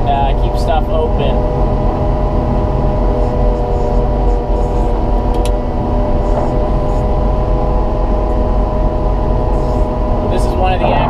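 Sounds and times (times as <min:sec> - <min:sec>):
wheel loader diesel engine hum: 0:00.0 - 0:11.0.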